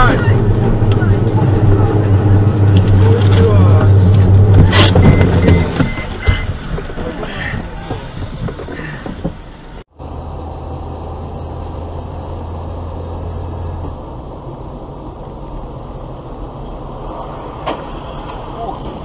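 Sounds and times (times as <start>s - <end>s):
road and engine noise inside car: 0.0s - 19.0s.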